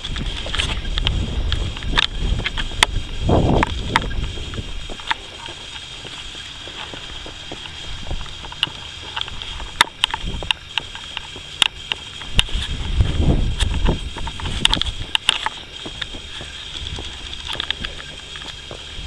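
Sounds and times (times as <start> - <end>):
footsteps on asphalt: 0.0 - 19.0
wind rumble on microphone: 0.0 - 19.0.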